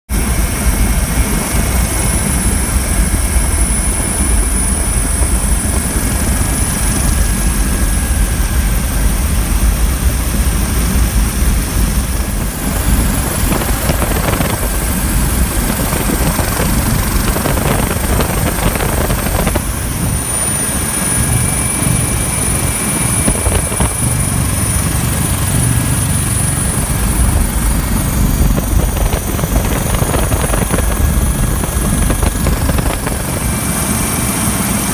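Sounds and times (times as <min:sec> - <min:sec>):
helicopter rotor and turbine din: 0:00.1 - 0:34.9
high turbine whine: 0:00.1 - 0:34.9.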